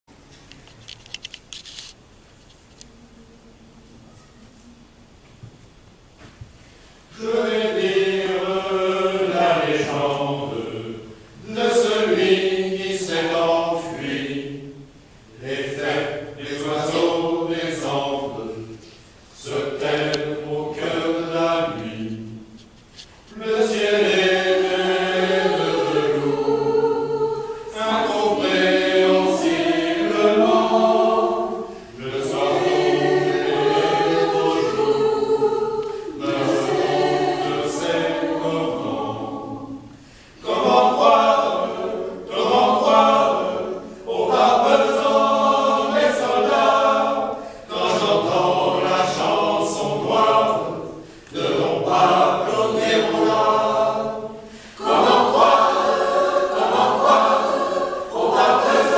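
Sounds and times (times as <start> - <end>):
mixed choir singing: 7.1 - 22.6, 23.3 - 58.9.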